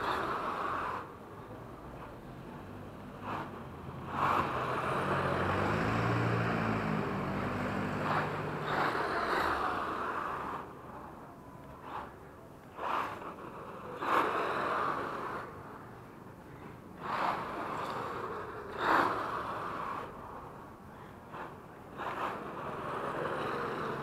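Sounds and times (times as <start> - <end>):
rc truck motor and tyres hissing: 0.0 - 24.0.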